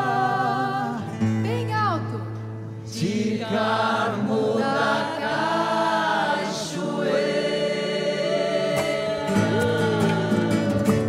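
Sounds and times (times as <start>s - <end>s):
choir singing a hymn: 0.0s - 1.2s, 2.9s - 11.0s.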